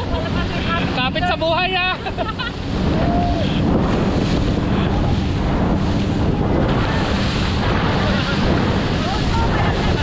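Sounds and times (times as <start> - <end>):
water rushing and spraying: 0.0 - 10.0
wind buffeting microphone: 0.0 - 10.0.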